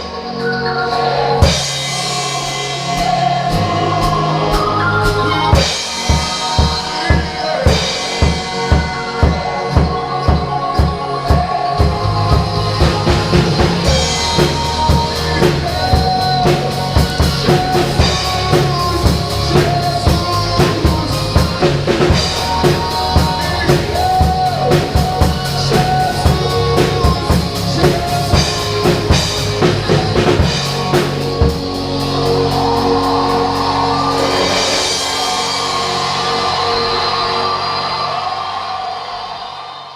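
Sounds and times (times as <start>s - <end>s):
recorded song: 0.0s - 39.9s
drum kit playing: 1.0s - 38.8s
bass drum beats: 2.9s - 37.2s.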